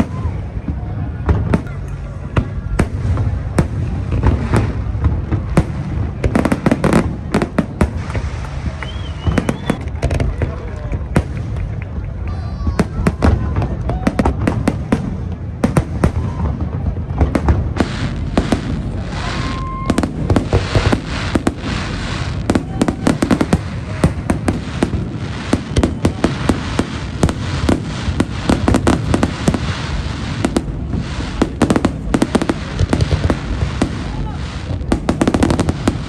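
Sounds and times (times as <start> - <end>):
rumble of firework booms: 0.0 - 11.7, 12.7 - 36.0
fireworks cracking: 0.0 - 36.0.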